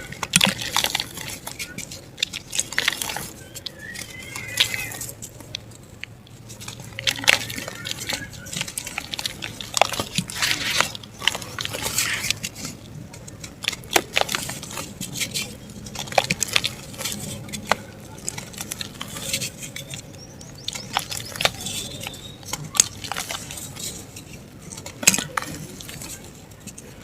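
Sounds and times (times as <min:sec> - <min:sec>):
dried mud crumbling and crunching: 0:00.0 - 0:27.0.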